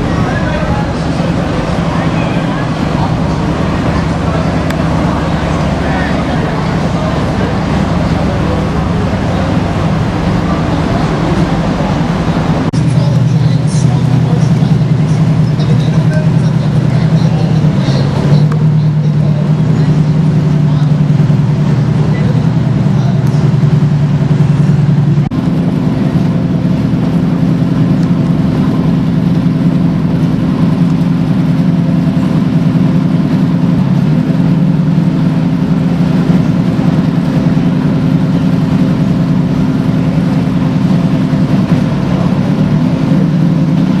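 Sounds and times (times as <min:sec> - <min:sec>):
boat engine humming: 0:00.0 - 0:44.0.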